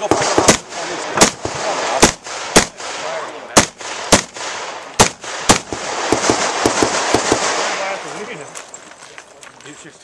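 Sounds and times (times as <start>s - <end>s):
rifle shots: 0.0s - 8.1s.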